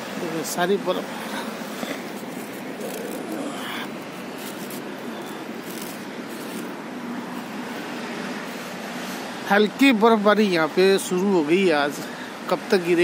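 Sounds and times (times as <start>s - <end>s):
street traffic hiss: 0.0s - 13.0s.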